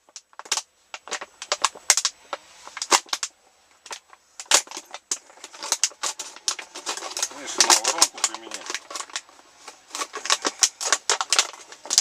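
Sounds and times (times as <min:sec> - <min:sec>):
objects clicking and knocking: 0:00.0 - 0:12.0.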